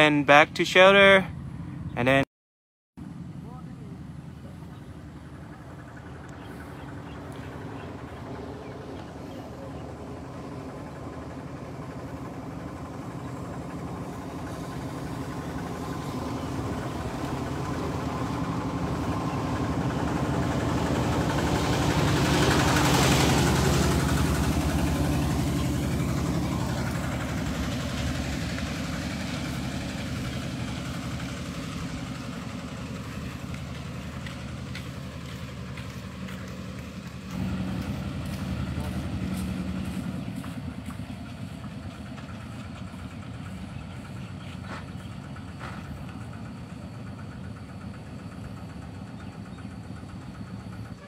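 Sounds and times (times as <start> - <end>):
small truck engine driving past: 3.0 - 51.0.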